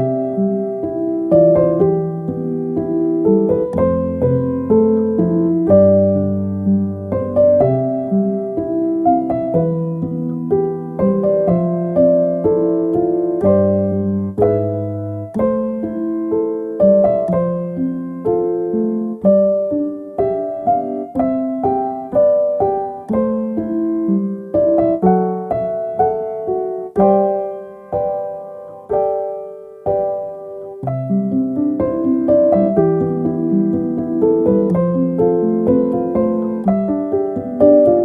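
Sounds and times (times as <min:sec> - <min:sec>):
soft solo piano music: 0:00.0 - 0:38.0.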